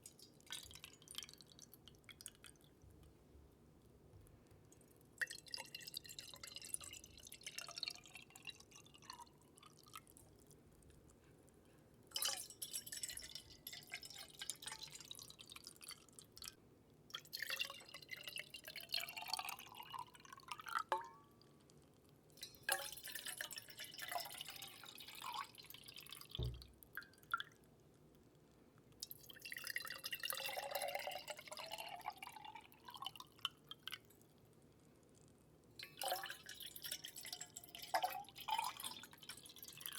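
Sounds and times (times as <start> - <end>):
water trickling into container: 0.0 - 11.2, 12.1 - 39.9.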